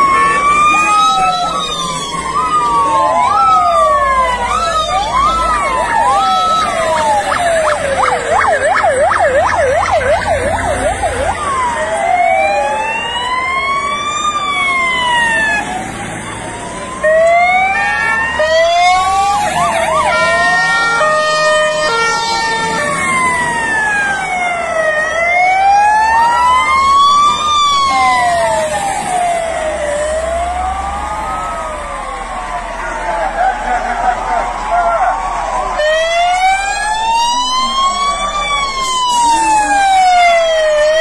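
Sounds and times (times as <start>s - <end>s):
fire engine sirens: 0.0s - 41.0s.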